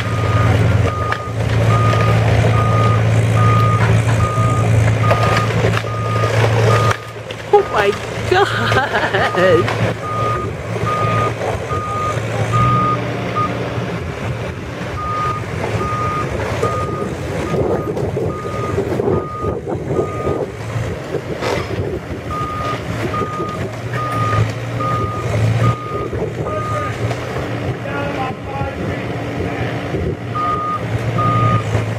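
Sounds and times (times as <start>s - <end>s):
diesel engine humming: 0.0s - 31.9s.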